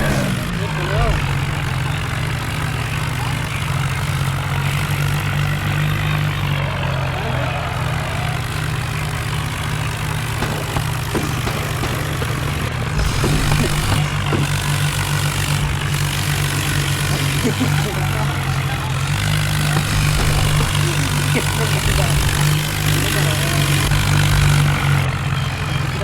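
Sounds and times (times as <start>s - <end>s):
diesel tractor engines running: 0.0s - 26.0s.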